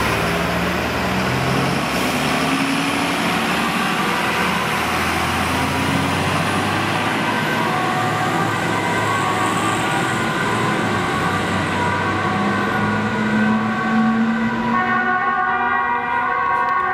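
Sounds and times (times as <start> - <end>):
diesel engine hum: 0.0 - 16.9
two-tone emergency siren: 1.3 - 16.9.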